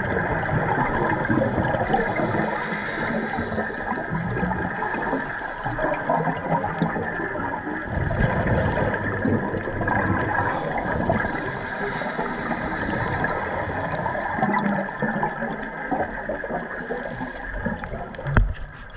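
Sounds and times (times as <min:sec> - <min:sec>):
underwater regulator bubbles: 0:00.0 - 0:18.9.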